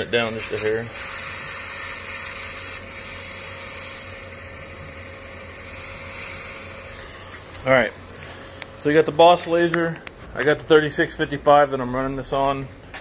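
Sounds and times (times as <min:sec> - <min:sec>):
air assist hissing: 0:00.0 - 0:11.7.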